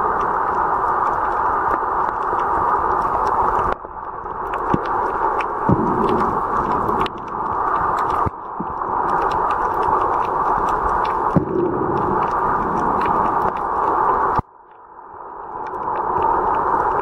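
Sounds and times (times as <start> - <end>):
small clicks underwater: 0.0 - 17.0
underwater rush of water: 0.0 - 17.0.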